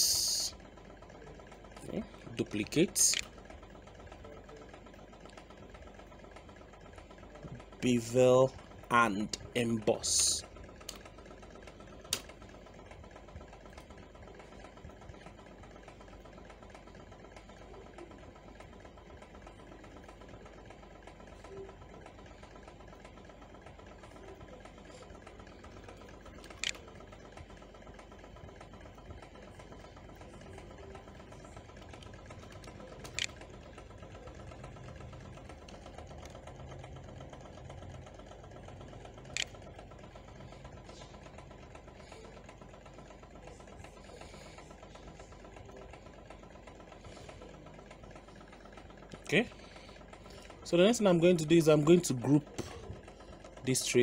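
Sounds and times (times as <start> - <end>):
quiet background hum: 0.0 - 54.0.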